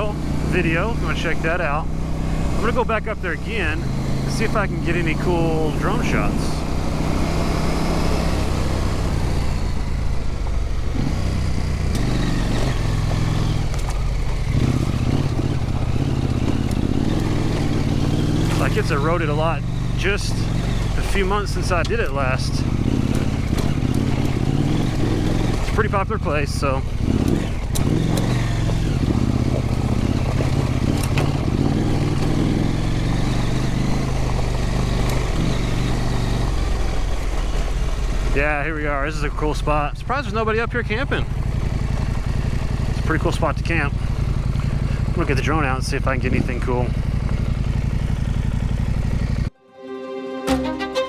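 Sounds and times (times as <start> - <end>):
motorcycle engine at low revs: 0.0 - 49.6.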